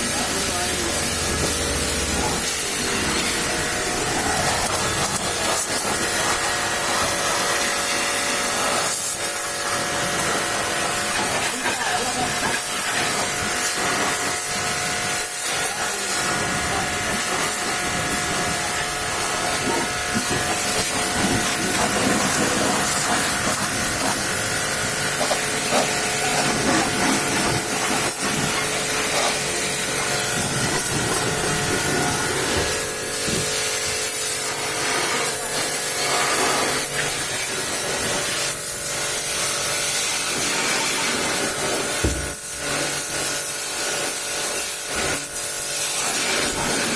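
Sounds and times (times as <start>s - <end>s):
pressure washer spraying water: 0.0s - 46.9s.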